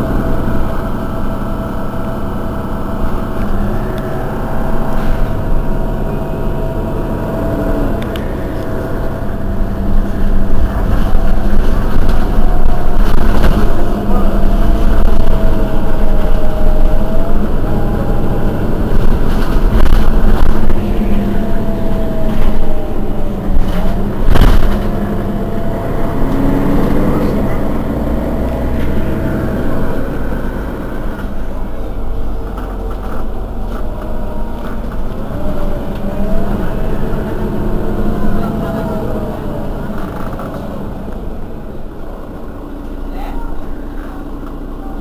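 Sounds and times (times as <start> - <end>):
bus engine idling: 0.0 - 45.0
engine whine: 0.0 - 45.0.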